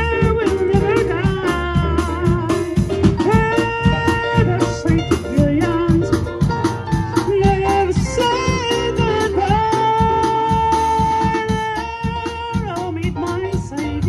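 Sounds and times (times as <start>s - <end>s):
man singing into microphone: 0.0s - 6.3s, 7.3s - 14.0s
drum kit beat: 0.0s - 14.0s
guitar: 0.0s - 14.0s
keyboard: 0.0s - 14.0s.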